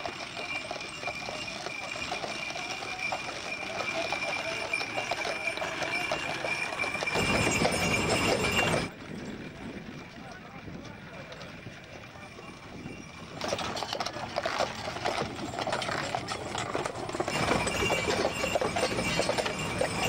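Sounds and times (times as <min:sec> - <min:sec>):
horse hooves clip-clopping on pavement: 0:00.0 - 0:20.0.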